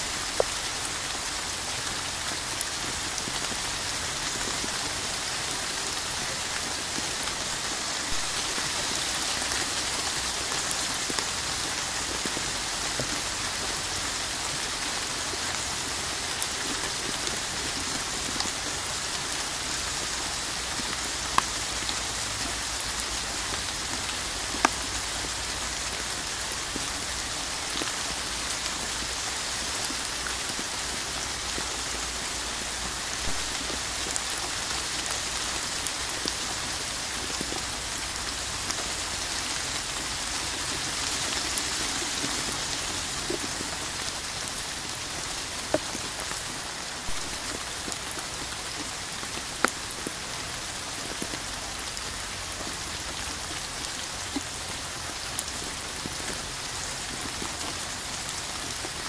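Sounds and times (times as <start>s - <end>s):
rain pattering on hard surface: 0.0s - 59.0s.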